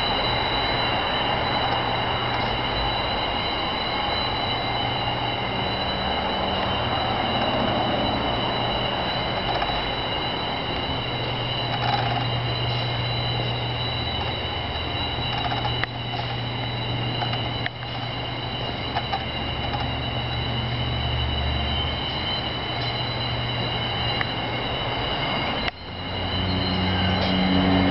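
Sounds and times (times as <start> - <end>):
diesel engine idling: 0.0 - 27.9
high-pitched whine: 0.0 - 27.9.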